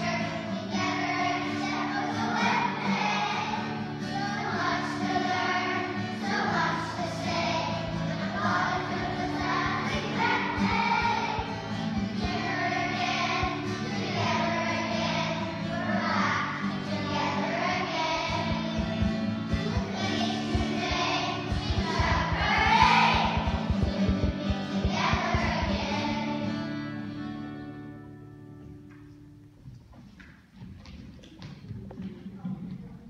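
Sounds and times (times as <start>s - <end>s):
children singing in unison: 0.0s - 27.0s
instrumental accompaniment: 1.1s - 29.7s.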